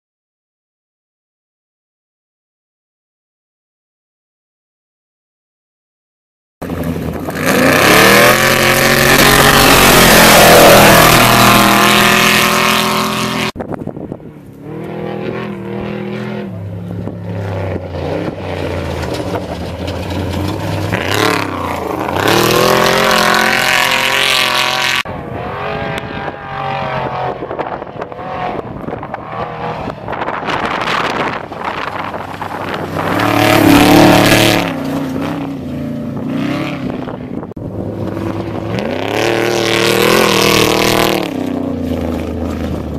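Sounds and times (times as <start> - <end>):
off-road vehicle engines revving: 6.6 - 42.9.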